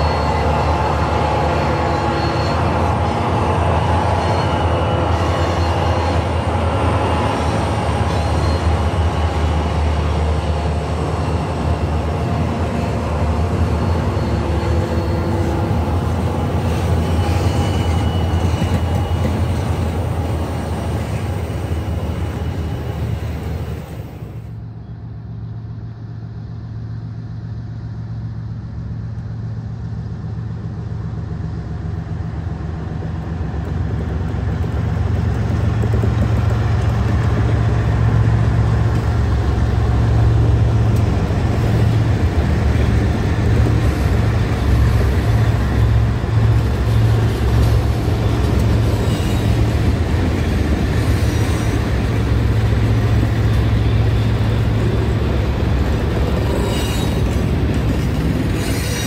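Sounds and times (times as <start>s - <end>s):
diesel freight train rumble: 0.0s - 59.0s.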